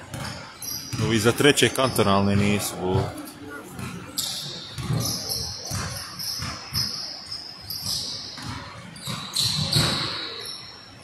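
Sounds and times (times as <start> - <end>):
basketball bouncing: 0.0 - 10.4
sneakers squeaking: 0.0 - 11.0.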